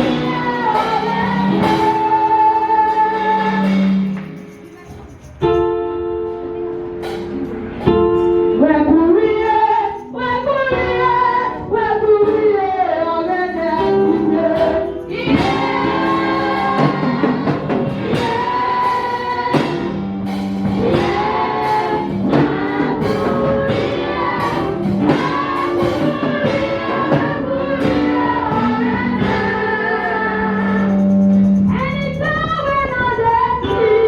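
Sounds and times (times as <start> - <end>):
choir singing gospel music: 0.0 - 4.4, 9.0 - 34.0
band accompaniment: 0.0 - 12.6, 13.2 - 34.0.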